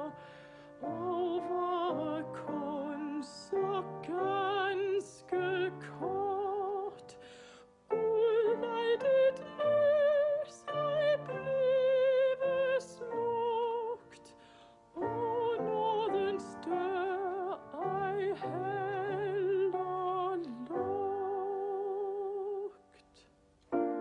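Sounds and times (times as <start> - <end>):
woman singing a hymn: 0.0 - 0.2, 0.8 - 7.3, 7.9 - 23.2
piano accompaniment: 0.0 - 22.9, 23.7 - 24.0.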